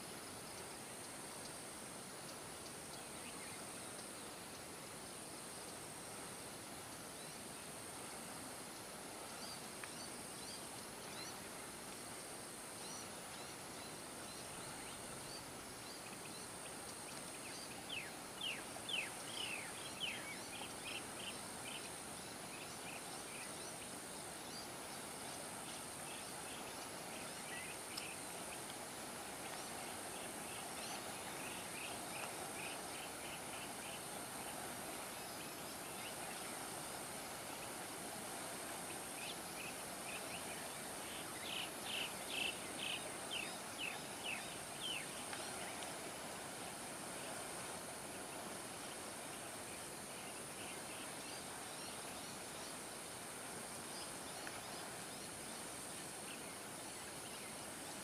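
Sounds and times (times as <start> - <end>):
running river water: 0.0 - 58.0.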